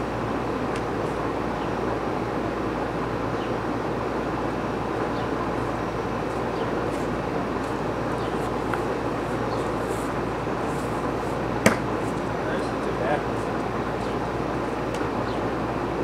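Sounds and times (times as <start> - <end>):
rushing outdoor noise: 0.0 - 16.0.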